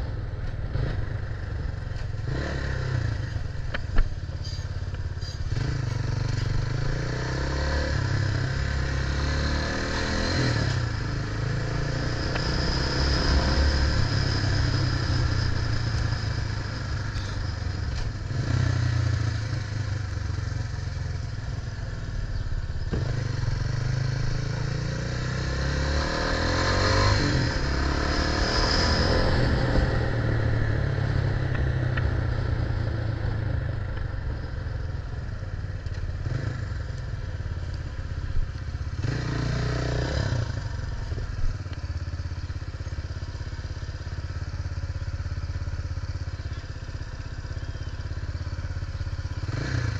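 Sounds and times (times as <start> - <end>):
engine noise: 0.0 - 49.9.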